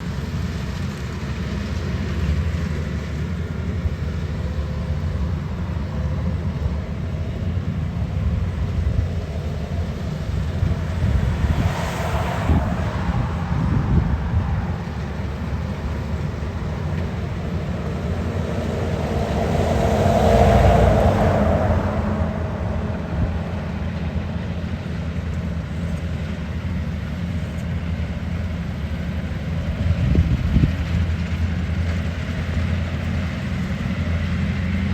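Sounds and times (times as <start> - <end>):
farm machinery engine running: 0.0 - 34.9.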